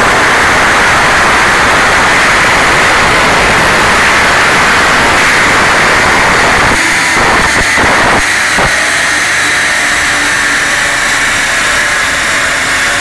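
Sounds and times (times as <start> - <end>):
car engine revving on dyno: 0.0 - 13.0.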